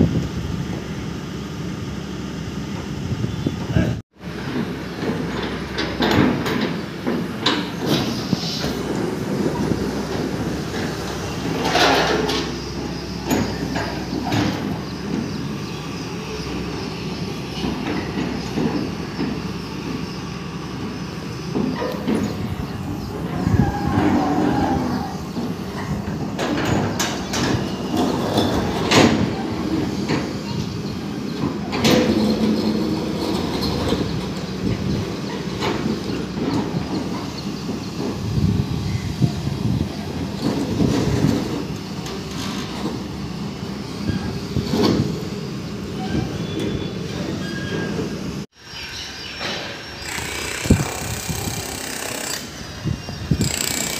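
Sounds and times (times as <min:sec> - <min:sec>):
excavator diesel engine rumble: 0:00.0 - 0:48.5.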